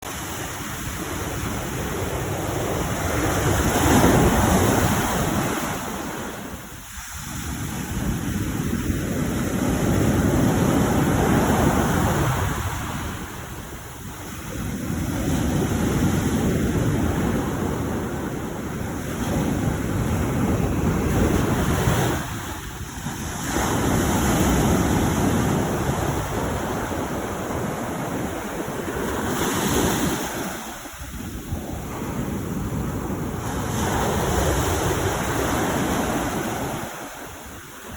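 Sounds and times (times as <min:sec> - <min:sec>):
sea waves surging and washing: 0:00.0 - 0:37.9.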